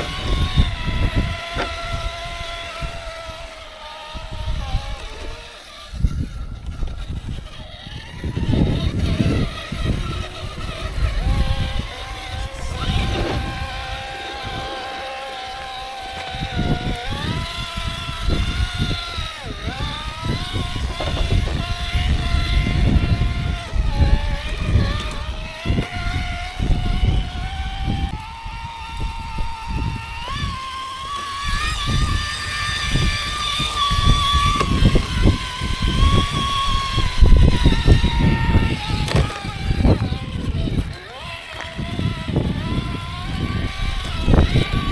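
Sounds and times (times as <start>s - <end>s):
electric motor and gear whine: 0.0s - 44.9s.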